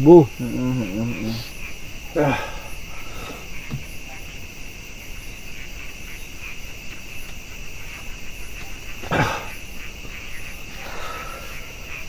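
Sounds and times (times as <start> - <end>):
night insects buzzing: 0.0 - 12.0.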